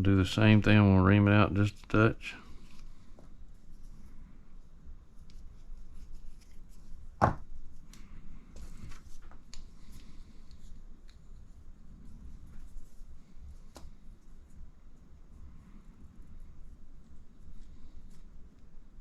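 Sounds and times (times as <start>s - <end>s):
quiet rustling: 0.0s - 19.0s.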